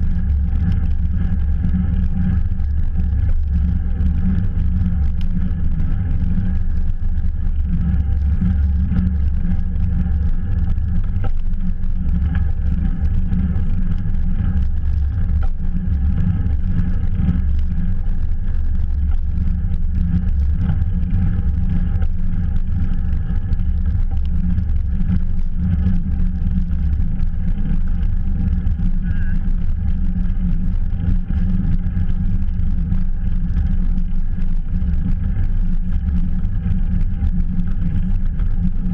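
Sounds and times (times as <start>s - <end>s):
bicycle road noise: 0.0s - 38.9s.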